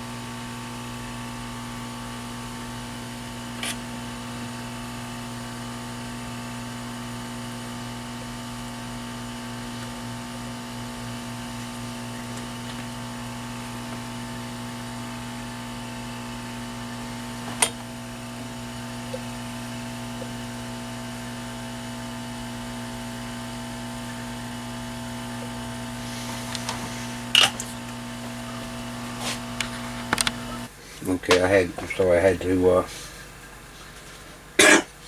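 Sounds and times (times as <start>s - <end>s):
electrical equipment hum: 0.0s - 35.0s.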